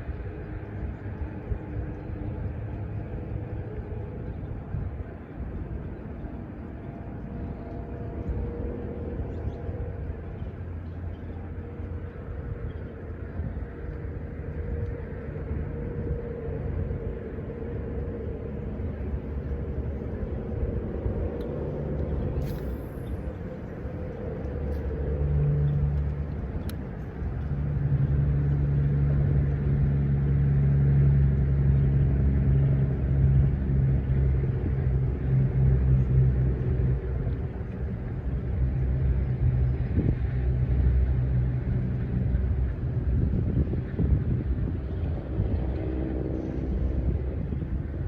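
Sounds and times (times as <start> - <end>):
low engine drone: 0.0 - 48.0.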